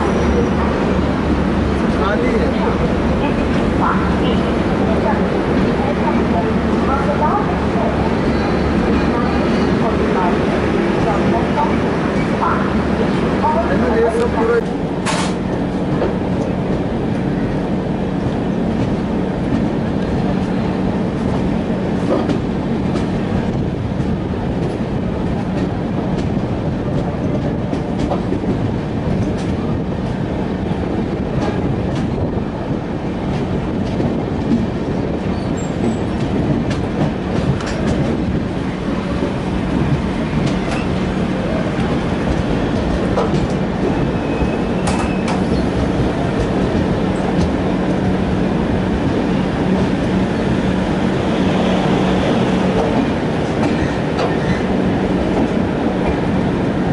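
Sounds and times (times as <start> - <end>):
train rumble: 0.0 - 56.9
train wheels clacking over rails: 0.0 - 56.9.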